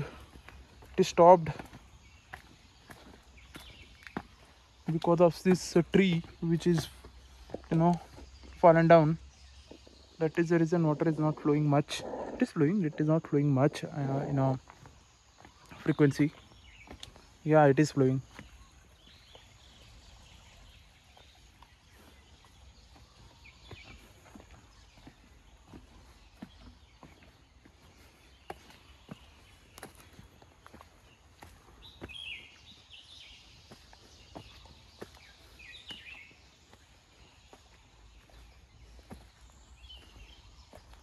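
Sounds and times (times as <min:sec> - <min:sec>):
faint bird chirps: 0:00.0 - 0:41.0
faint forest ambience: 0:00.0 - 0:41.0
footsteps on dirt path: 0:00.0 - 0:41.0.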